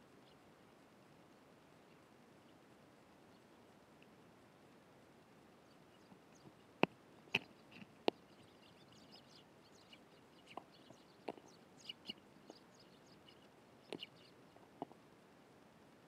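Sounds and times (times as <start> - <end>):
sparrows chirping faintly: 0.0 - 16.0.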